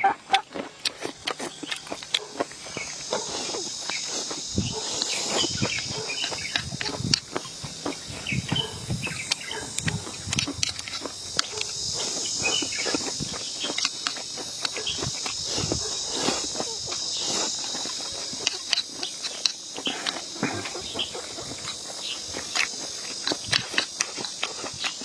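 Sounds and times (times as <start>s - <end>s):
chewing: 0.0s - 25.0s
insects chirring: 0.0s - 25.0s.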